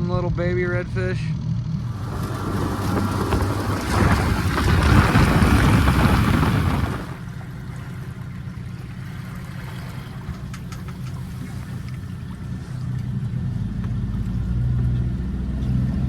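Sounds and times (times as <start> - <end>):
boat motor humming: 0.0 - 16.0
rush of wind and water: 1.8 - 16.0.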